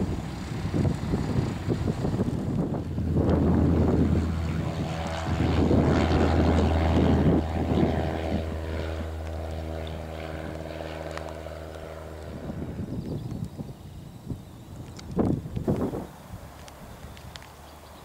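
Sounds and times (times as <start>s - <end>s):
wind buffeting microphone: 0.0s - 17.6s
light aircraft engine droning: 0.0s - 18.0s.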